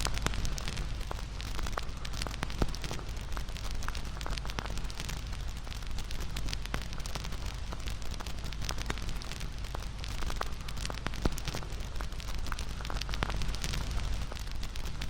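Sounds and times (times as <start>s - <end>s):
bonfire crackling and popping: 0.0s - 15.0s
low rumble of flames: 0.0s - 15.0s.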